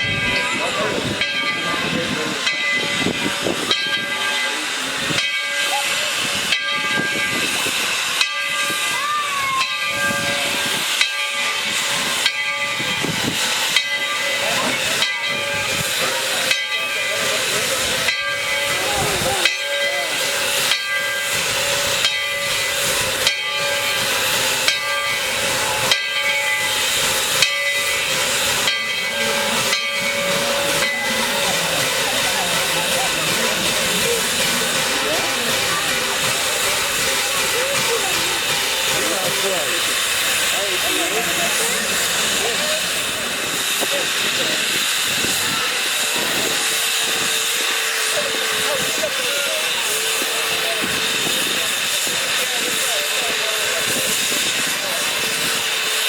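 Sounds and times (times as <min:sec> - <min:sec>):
steam locomotive hissing: 0:00.0 - 0:56.0.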